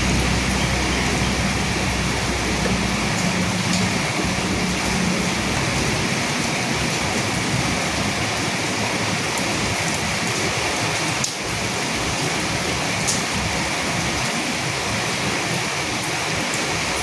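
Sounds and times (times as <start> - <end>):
raindrops ticking: 0.0 - 14.6
steady rain falling: 0.0 - 17.0.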